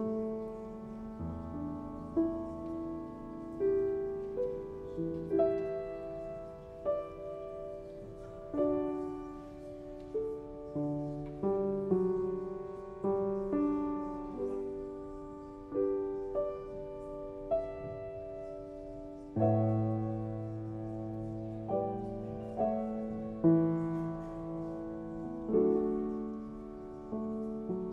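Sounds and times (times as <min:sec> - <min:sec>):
slow solo piano music: 0:00.0 - 0:27.9.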